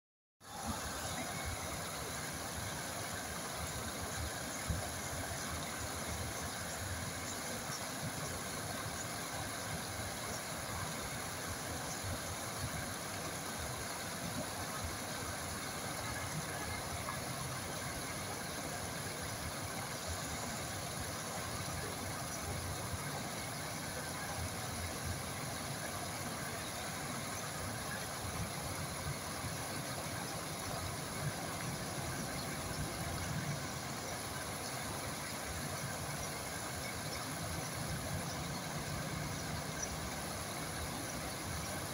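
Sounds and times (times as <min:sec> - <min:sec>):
flowing water rushing: 0:00.4 - 0:41.9.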